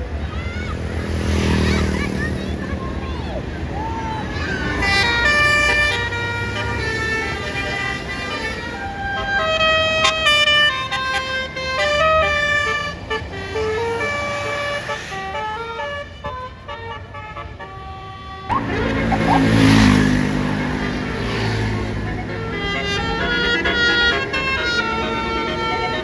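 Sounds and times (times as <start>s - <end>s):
bus engine rumble: 0.0s - 26.0s
bus horn playing a melody: 4.6s - 26.0s.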